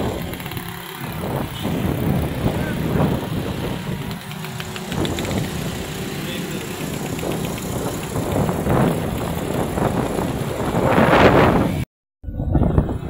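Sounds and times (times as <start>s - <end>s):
auto-rickshaws running: 0.0s - 11.8s
cars running: 0.0s - 11.8s
motorcycles running: 0.0s - 11.9s.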